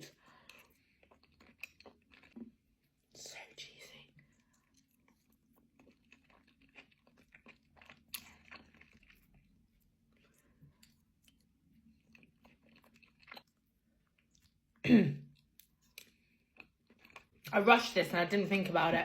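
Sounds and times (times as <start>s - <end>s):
faint chewing of food: 0.0s - 17.5s.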